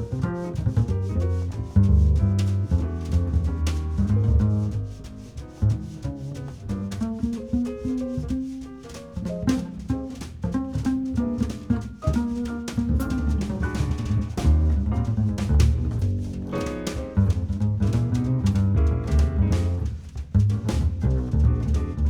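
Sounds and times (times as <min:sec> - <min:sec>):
instrumental music with drums: 0:00.0 - 0:22.0.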